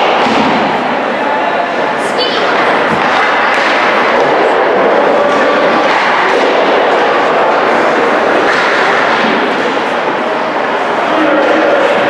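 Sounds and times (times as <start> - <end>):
echoing ice hockey game din: 0.0 - 12.0.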